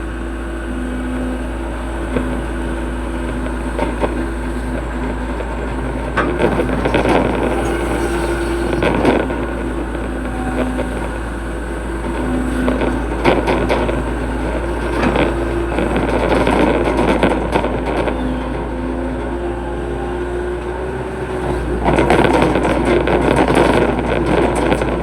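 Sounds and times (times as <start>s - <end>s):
excavator diesel engine droning: 0.0s - 25.0s
clunks and knocks: 3.2s - 25.0s.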